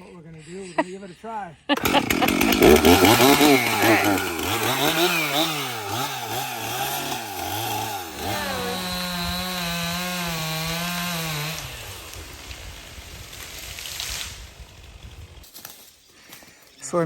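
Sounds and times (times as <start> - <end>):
chainsaw revving: 1.7 - 15.4.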